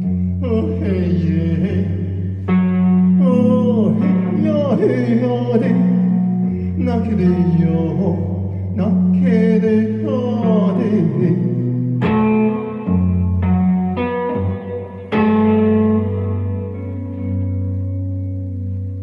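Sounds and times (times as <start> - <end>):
low held accompaniment notes: 0.0 - 19.0.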